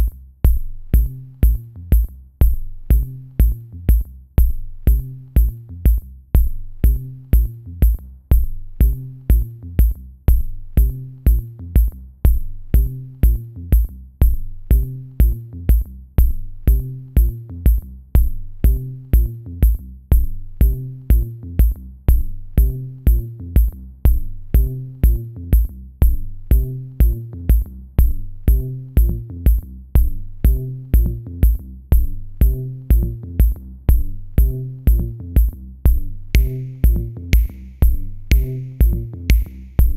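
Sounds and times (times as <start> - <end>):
bass line: 0.0 - 39.9
drum machine beat: 0.0 - 39.9
high ticking percussion: 0.0 - 39.9.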